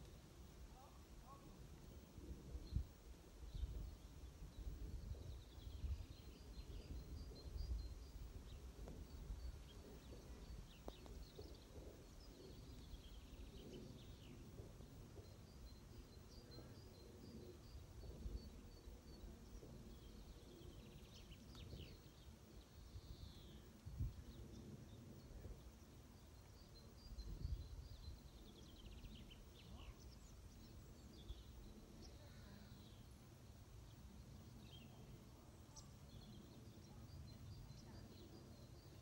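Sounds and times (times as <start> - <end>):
small birds chirping and singing: 0.0 - 39.0.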